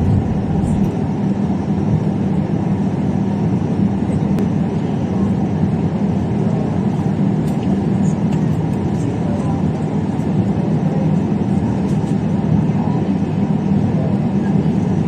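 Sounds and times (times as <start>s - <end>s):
constant hum: 0.0s - 15.0s
jet engines rumbling: 0.0s - 15.0s.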